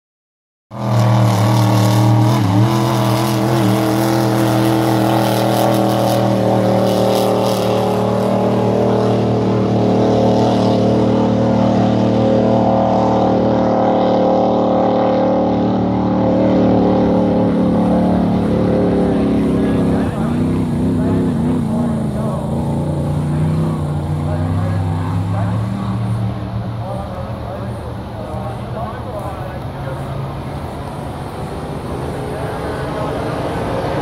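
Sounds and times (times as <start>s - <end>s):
race boat engine drone: 0.7s - 34.0s.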